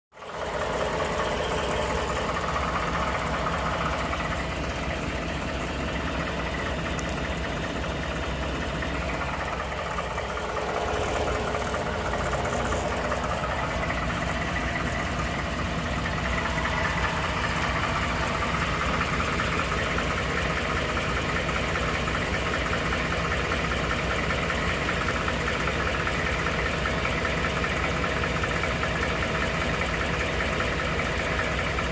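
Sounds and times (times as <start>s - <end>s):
engine knocking: 0.1s - 31.9s.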